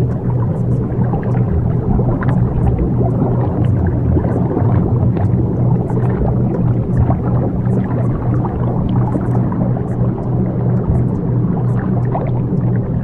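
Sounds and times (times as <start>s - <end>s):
dense rumbling wash: 0.0s - 13.0s
steady low hum: 0.0s - 13.0s.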